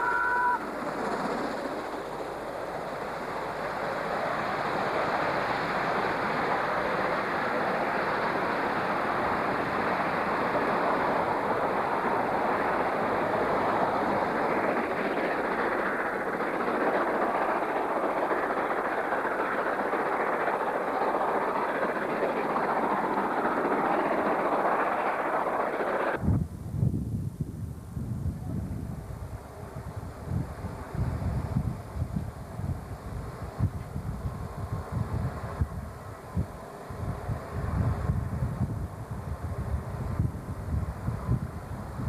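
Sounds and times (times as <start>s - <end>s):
train coaches rumbling on rails: 0.0s - 26.2s, 28.6s - 42.0s.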